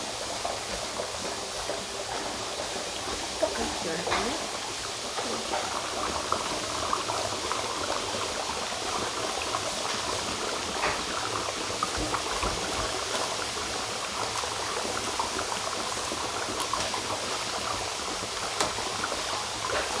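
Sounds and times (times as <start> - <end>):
dry ice bubbling in water: 0.2 - 20.0.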